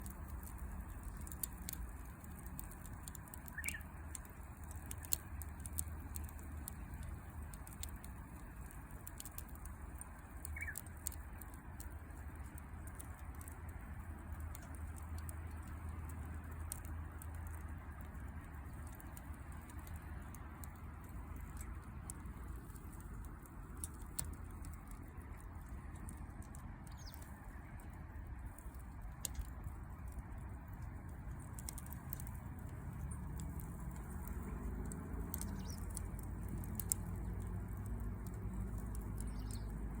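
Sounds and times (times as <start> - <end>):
campfire crackling and popping: 0.0 - 40.0.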